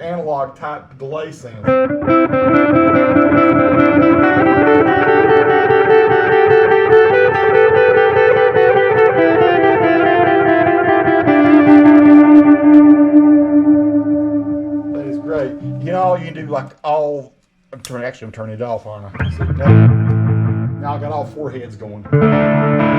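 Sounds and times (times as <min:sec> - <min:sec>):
electric guitar with echo delay: 0:01.6 - 0:16.7, 0:19.1 - 0:22.9.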